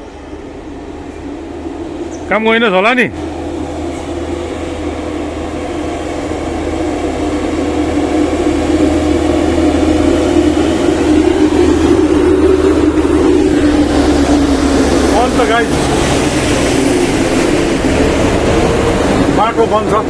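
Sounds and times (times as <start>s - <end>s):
truck diesel engine droning: 0.0s - 20.0s.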